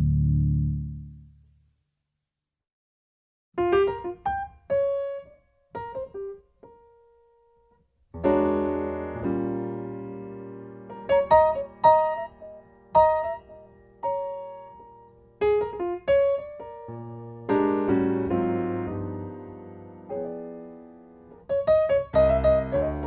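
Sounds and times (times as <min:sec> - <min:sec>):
piano music: 0:03.6 - 0:23.0.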